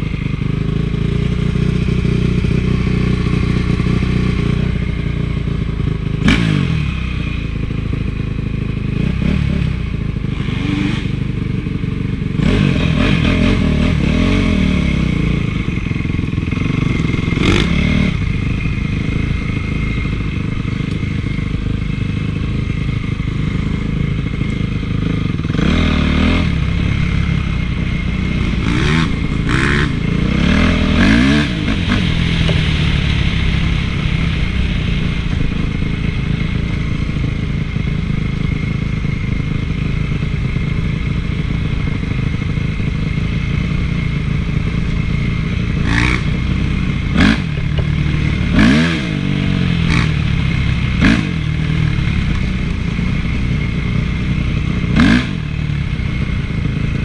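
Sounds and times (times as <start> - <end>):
motocross engine revving: 0.7 - 8.0, 8.9 - 11.4, 12.3 - 38.6, 43.5 - 57.0.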